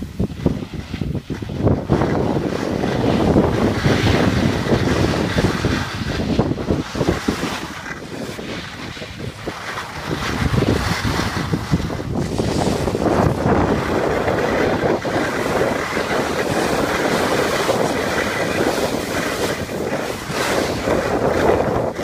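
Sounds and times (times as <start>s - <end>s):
skis scraping on snow: 0.0s - 22.0s
wind rushing over microphone: 0.0s - 22.0s.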